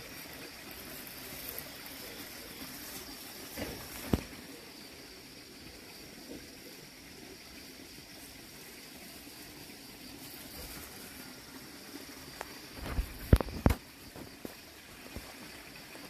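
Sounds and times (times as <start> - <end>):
high-pitched hiss: 0.0 - 16.0.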